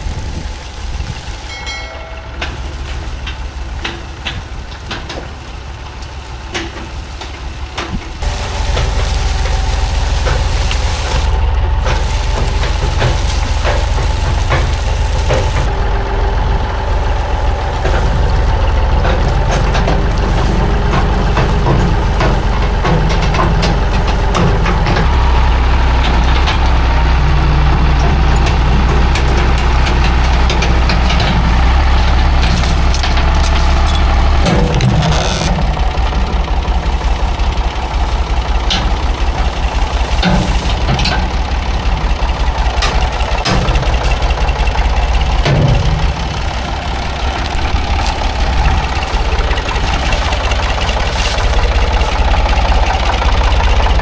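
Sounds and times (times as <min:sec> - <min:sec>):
tractor engine under load: 0:00.0 - 0:54.0
clanks and knocks: 0:01.5 - 0:15.7, 0:17.5 - 0:54.0.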